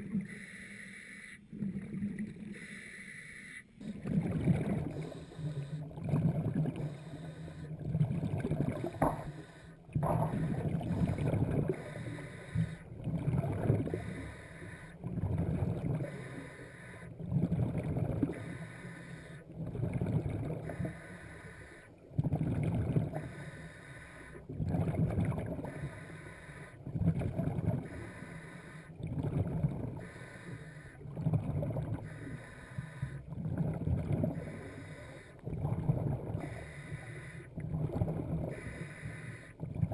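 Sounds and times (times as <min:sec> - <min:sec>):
exhaled bubbles gurgling underwater: 0:00.0 - 0:02.9, 0:03.7 - 0:39.9.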